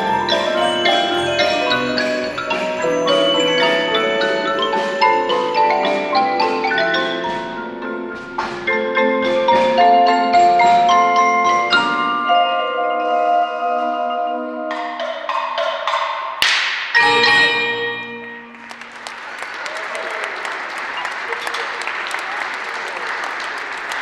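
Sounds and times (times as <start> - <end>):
mallet percussion ensemble: 0.0 - 20.3.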